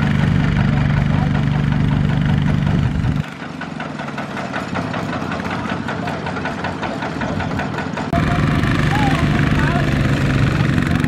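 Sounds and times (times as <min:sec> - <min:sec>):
diesel engine chugging: 0:00.0 - 0:11.0.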